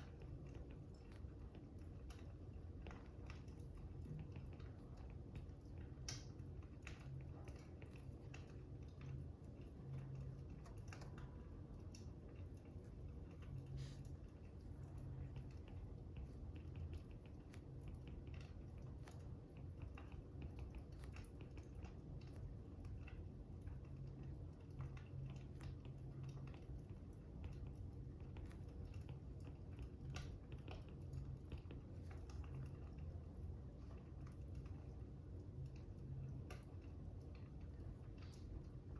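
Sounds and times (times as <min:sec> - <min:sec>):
low steady rumble: 0:00.0 - 0:38.9.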